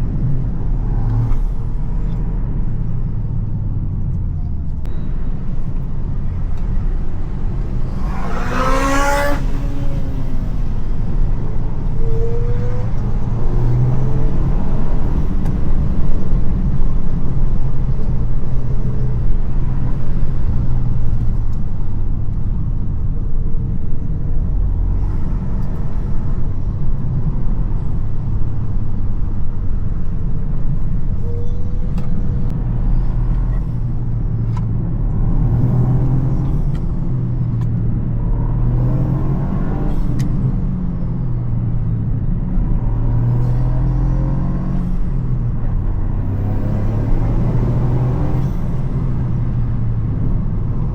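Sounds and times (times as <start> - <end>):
car engine droning: 0.0 - 50.9.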